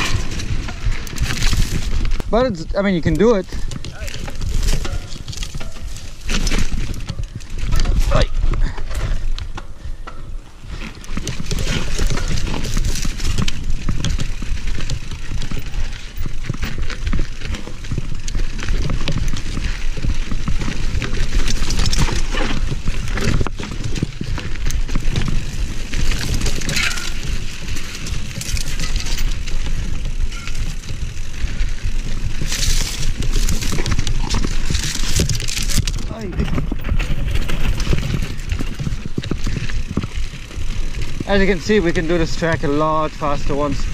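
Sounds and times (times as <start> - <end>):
bike rattling: 0.0 - 43.9
tyres crunching over stones: 0.0 - 43.9.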